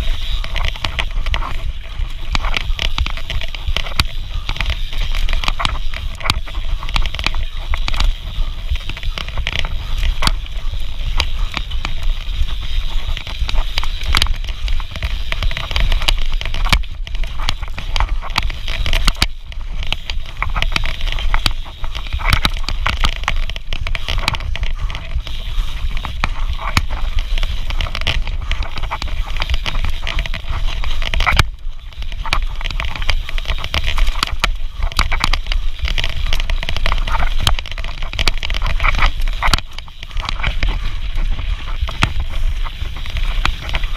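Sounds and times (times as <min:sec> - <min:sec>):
bike chain and frame rattling: 0:00.0 - 0:43.9
tyres crunching over dirt: 0:00.0 - 0:43.9
wind buffeting microphone: 0:00.0 - 0:43.9.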